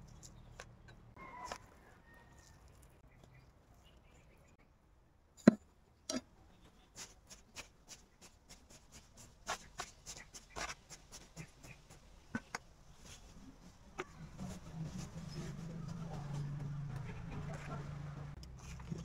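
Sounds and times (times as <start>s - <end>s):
crunching rustles of potting mix: 0.0s - 4.5s, 6.2s - 19.0s.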